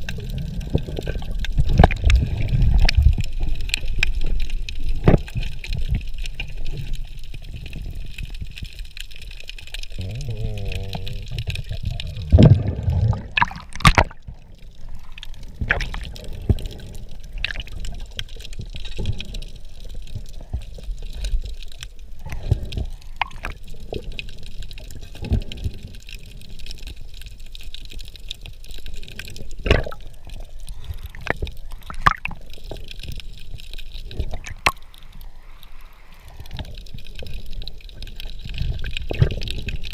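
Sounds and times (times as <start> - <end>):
underwater rumble of water: 0.0 - 39.9.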